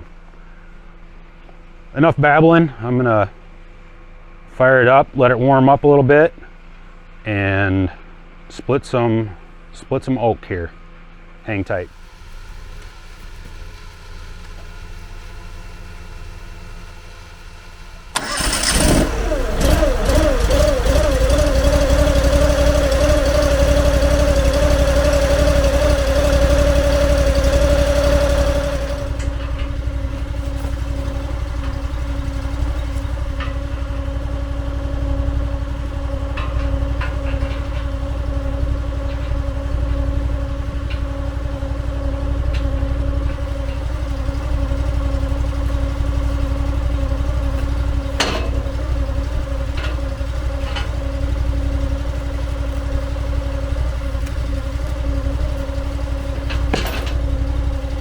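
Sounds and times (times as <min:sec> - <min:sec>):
engine running: 0:10.7 - 0:58.0.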